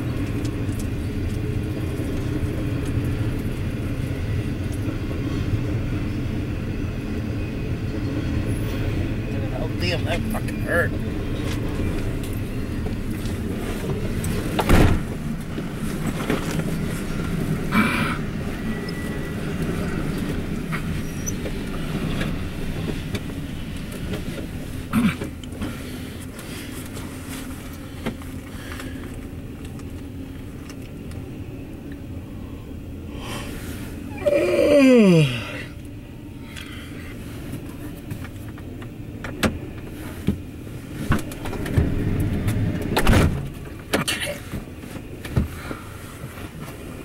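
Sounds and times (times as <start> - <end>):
freight train rumbling past: 0.0 - 38.0, 38.6 - 43.8.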